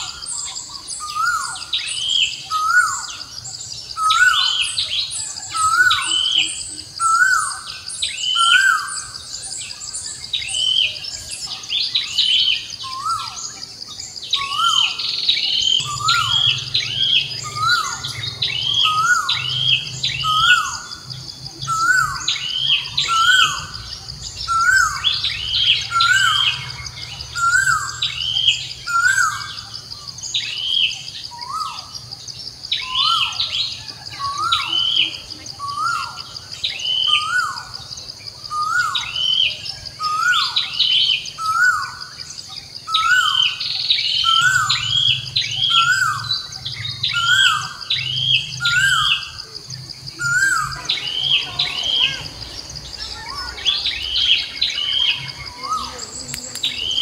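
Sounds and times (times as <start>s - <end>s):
birds calling: 0.0s - 57.0s
high-pitched insect drone: 0.0s - 57.0s.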